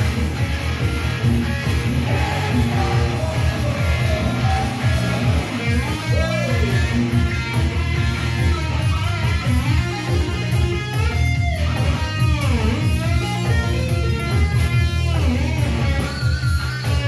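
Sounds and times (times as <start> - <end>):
electric guitar lead with bends: 0.0 - 17.0
low rhythmic bass pulse: 0.0 - 17.0.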